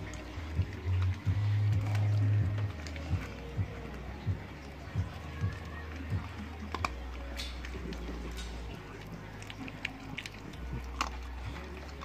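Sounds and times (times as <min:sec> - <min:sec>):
puppy chewing raw meat: 0:00.0 - 0:12.0
teeth clicking on bone: 0:00.0 - 0:12.0.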